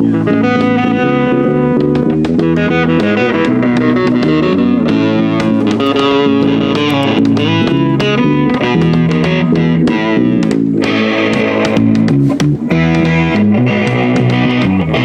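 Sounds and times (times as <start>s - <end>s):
guitar music with bass: 0.0s - 15.0s.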